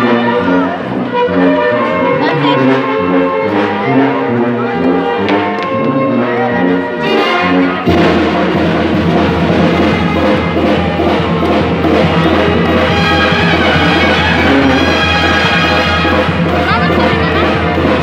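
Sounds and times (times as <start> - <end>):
brass band playing dance music: 0.0 - 18.0
tuba bass line: 0.0 - 18.0.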